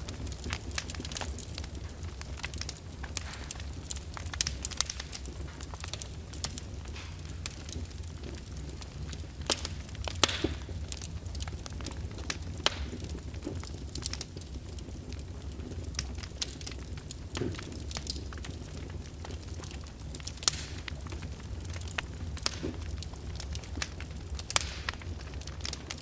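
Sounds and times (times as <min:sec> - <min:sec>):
fire crackling: 0:00.0 - 0:26.0
low fire rumble: 0:00.0 - 0:26.0.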